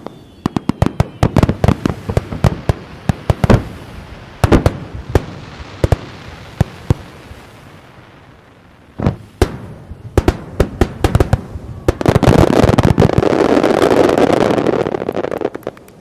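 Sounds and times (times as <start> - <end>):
fireworks bursting with bangs: 0.0 - 16.0.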